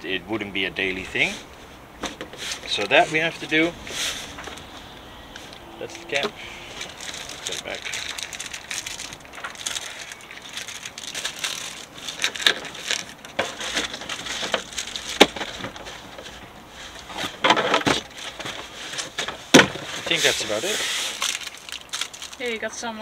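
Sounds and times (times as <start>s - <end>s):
plastic packaging crinkling: 2.4s - 22.7s.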